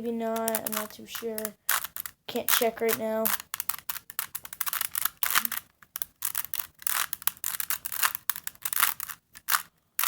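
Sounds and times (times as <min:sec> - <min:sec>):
puzzle cube clicking and scraping: 0:00.1 - 0:10.0.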